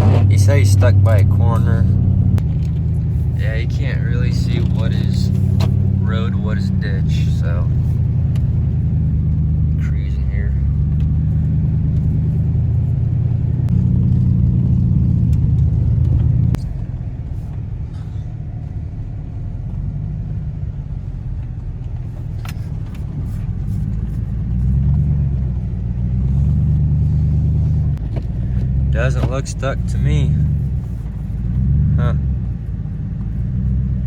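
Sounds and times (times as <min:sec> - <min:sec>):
pickup truck engine rumbling: 0:00.0 - 0:34.0.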